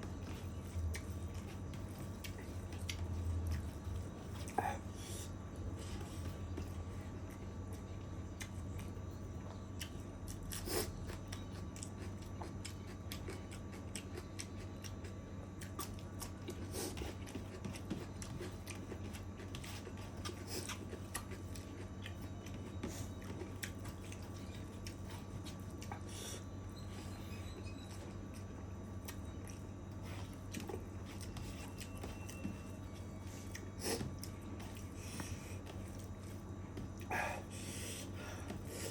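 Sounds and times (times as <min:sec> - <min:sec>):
person chewing food: 0:00.0 - 0:26.9, 0:27.7 - 0:38.9
steady low hum: 0:00.0 - 0:38.9.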